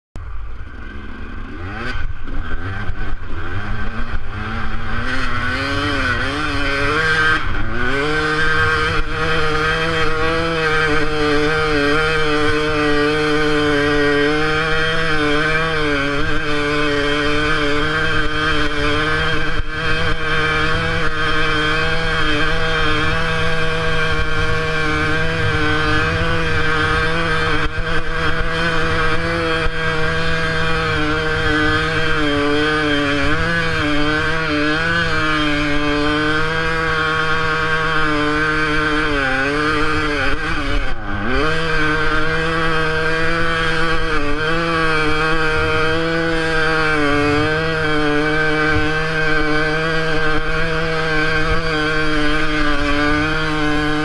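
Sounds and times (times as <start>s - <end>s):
motorcycle engine revving: 0.2s - 54.0s.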